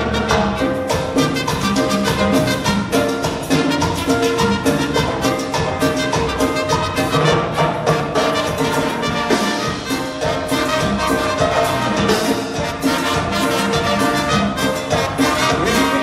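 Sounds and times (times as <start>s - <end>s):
keyboard: 0.0s - 16.0s
percussion: 0.0s - 16.0s
trumpets playing: 0.0s - 16.0s.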